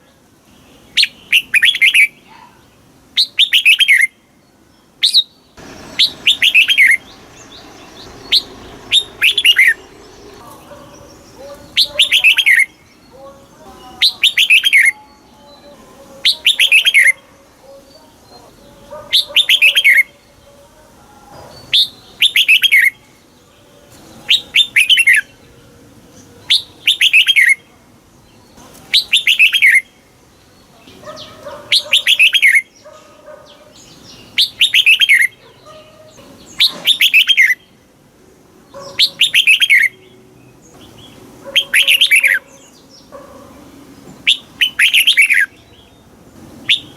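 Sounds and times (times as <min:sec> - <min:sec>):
bulbul singing: 0:00.0 - 0:37.9, 0:38.7 - 0:46.9.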